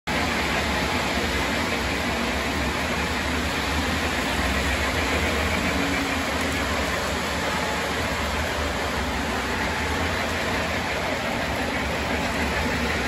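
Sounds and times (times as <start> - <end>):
model trains rolling rumble: 0.1 - 13.0.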